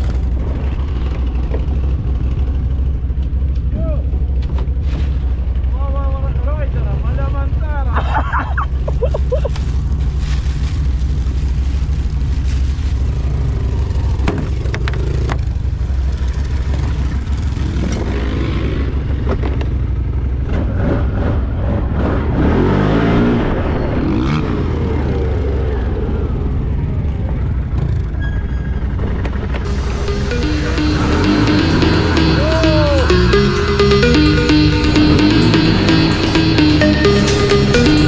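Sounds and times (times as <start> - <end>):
motorcycle engines running: 0.0 - 38.0.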